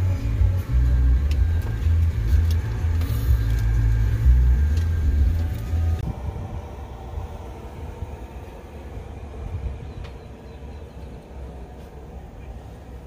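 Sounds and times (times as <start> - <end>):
vehicle rumbling on unpaved trail: 0.0 - 13.0.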